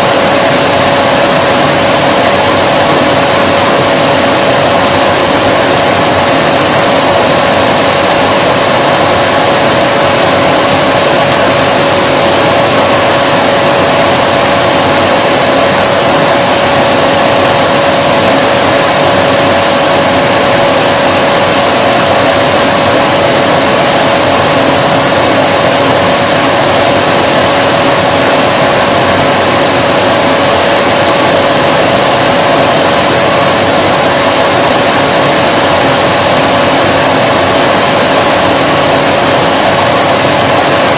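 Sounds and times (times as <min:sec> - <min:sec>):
vacuum cleaner motor running: 0:00.0 - 0:40.9.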